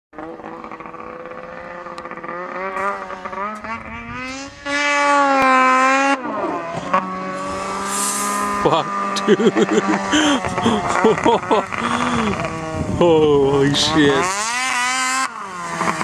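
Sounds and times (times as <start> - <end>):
snowmobile engine revving: 0.2 - 16.0.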